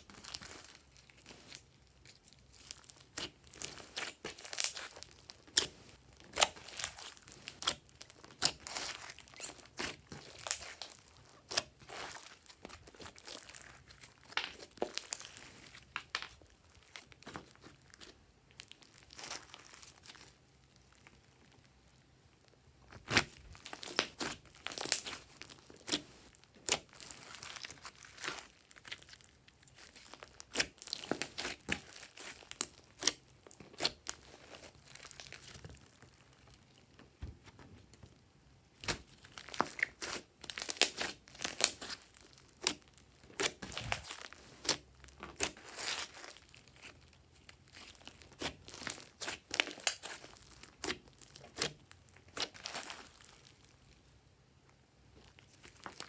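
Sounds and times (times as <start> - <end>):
sticky slime crackles and pops: 0.0 - 37.3, 38.7 - 56.0.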